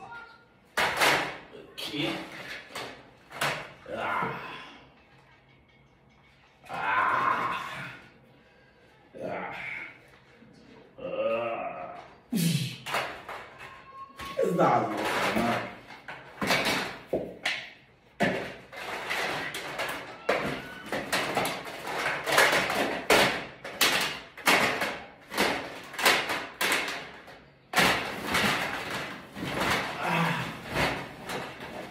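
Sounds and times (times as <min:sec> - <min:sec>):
plastic toys clattering: 0:00.0 - 0:08.1, 0:12.0 - 0:31.9.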